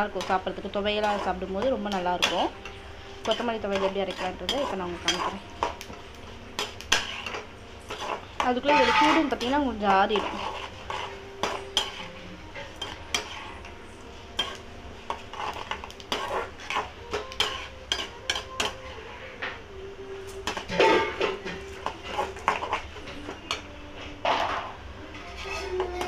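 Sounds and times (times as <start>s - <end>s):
metal spoon scraping metal pan: 0.0s - 19.5s, 20.4s - 23.7s, 24.3s - 26.0s.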